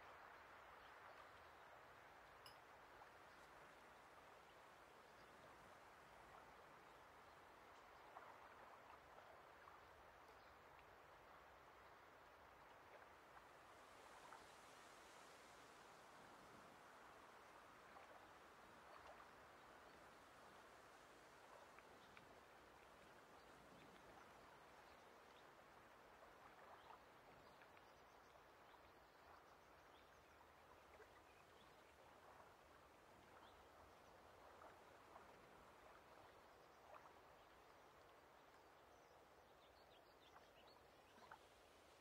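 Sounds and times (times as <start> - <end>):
lake ambience: 0.3 - 42.0.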